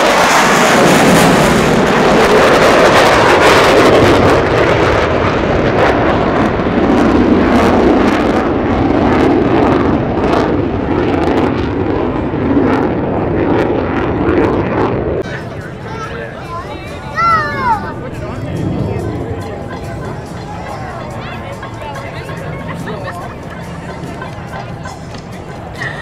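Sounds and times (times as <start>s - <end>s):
crackling jet noise: 0.0s - 26.0s.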